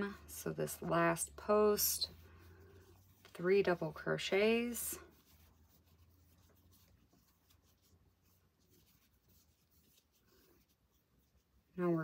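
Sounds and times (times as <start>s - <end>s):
crochet hook rustling yarn: 0.0s - 12.0s.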